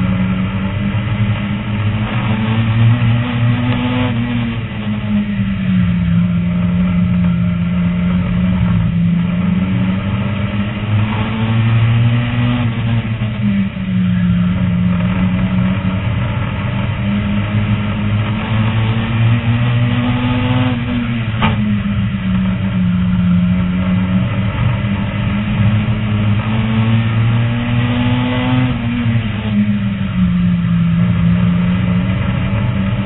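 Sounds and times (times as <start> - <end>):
race car engine revving: 0.0 - 33.0.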